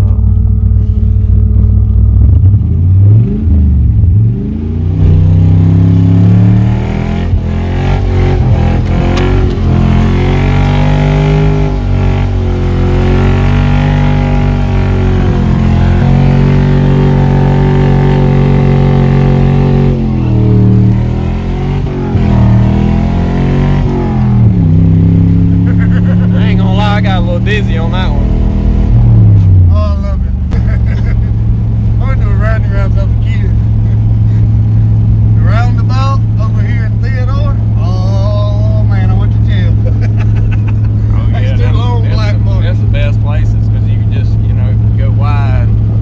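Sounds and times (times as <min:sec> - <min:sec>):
engine revving inside a truck cab: 0:00.0 - 0:46.0.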